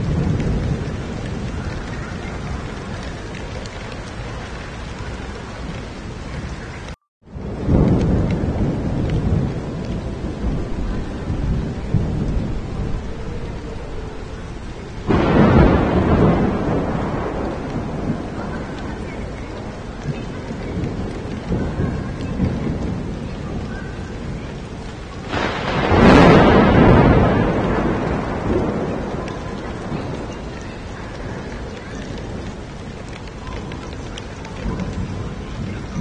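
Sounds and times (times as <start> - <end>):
heavy rain on street: 0.0 - 36.0
thunder rumbling: 0.0 - 36.0.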